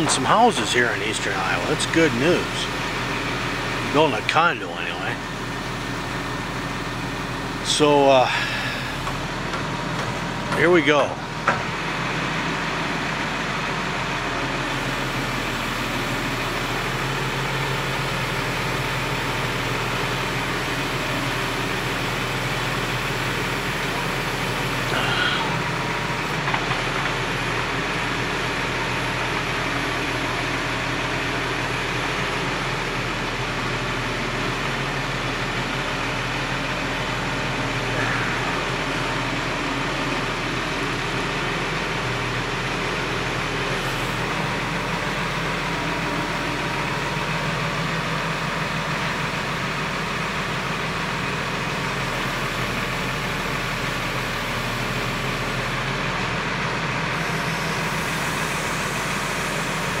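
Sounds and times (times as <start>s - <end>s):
crane engine running: 0.0s - 60.0s.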